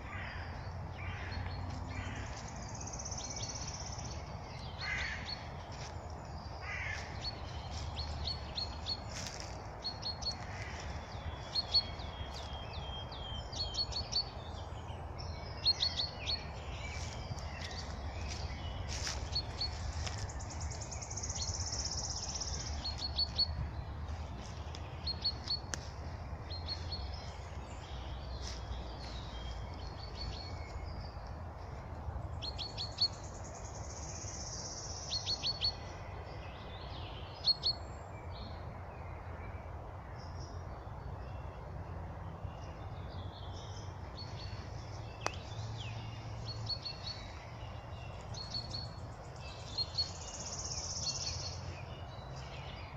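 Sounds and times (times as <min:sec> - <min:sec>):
high trilling birdsong: 0:00.0 - 0:38.7, 0:42.6 - 0:52.9
birds singing: 0:00.0 - 0:52.9.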